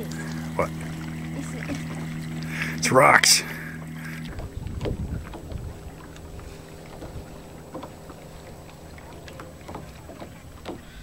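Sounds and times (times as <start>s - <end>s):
low steady rumble: 0.0s - 11.0s
paddle splashes and drips: 0.0s - 11.0s
water lapping at hull: 0.0s - 11.0s.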